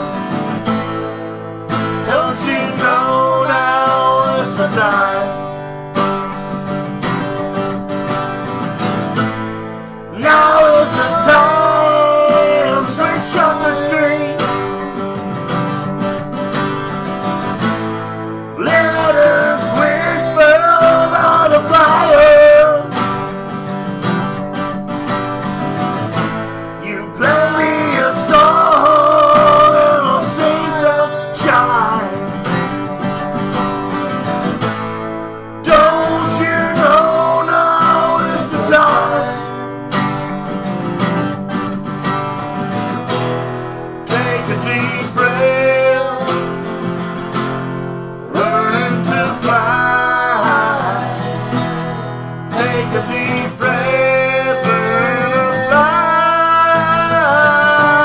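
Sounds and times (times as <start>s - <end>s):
acoustic guitars strumming: 0.0s - 58.0s.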